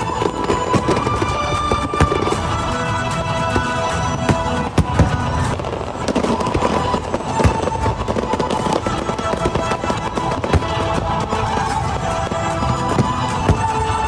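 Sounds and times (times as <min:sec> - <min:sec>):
fireworks bangs and crackles: 0:00.0 - 0:14.0
loud show music: 0:00.0 - 0:14.0.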